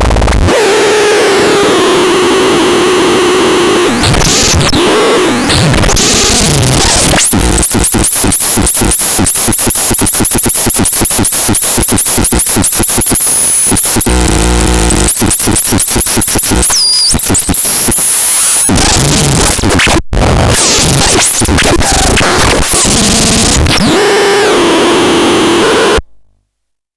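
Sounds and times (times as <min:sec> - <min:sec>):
harsh electronic noise: 0:00.0 - 0:26.0.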